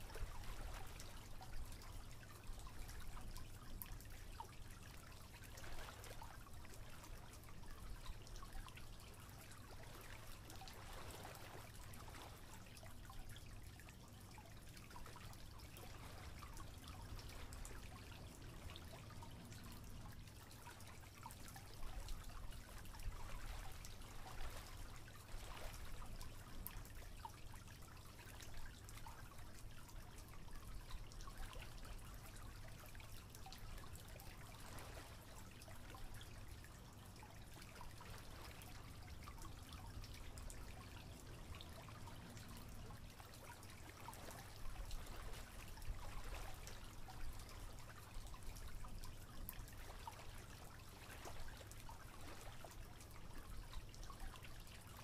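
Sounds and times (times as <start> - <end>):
water trickling and dripping: 0.0 - 55.0.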